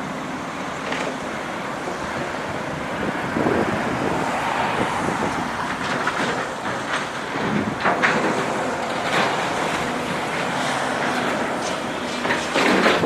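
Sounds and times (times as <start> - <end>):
passing vehicles rushing: 0.0 - 13.0.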